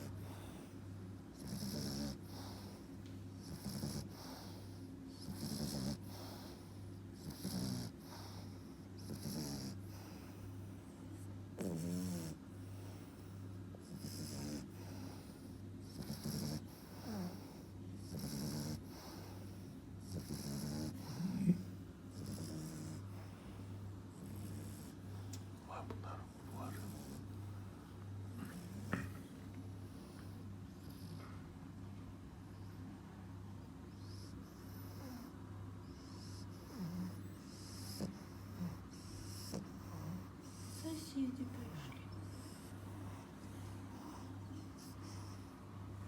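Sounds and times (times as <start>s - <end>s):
puppy snoring: 0.0s - 31.5s, 32.4s - 46.0s.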